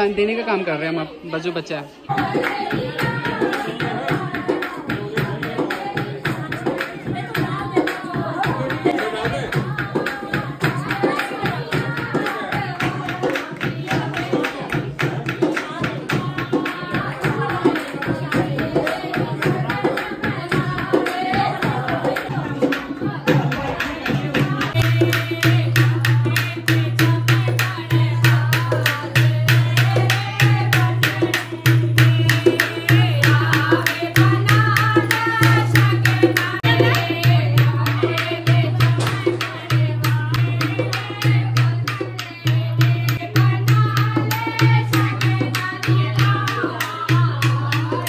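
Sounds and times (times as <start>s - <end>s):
women singing together: 2.0s - 48.0s
rhythmic hand-clapping: 2.1s - 48.0s
steady drum beat: 2.1s - 48.0s.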